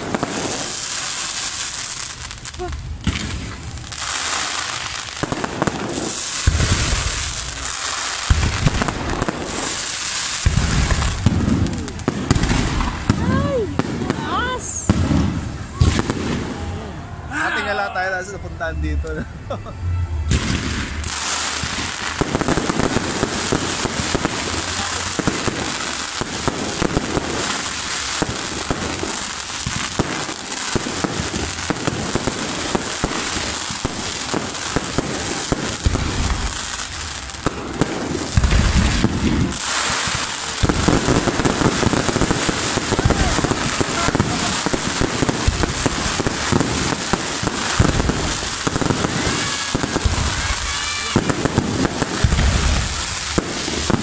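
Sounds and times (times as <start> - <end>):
heavy firework booms: 0.0 - 17.0, 20.2 - 54.0
fireworks bangs and crackling: 0.0 - 54.0.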